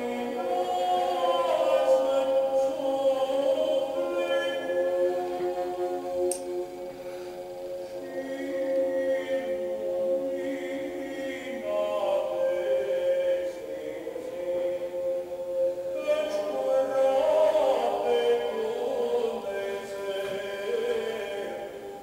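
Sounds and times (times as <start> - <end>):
choir chanting: 0.0 - 22.0
held note beneath voices: 0.0 - 22.0.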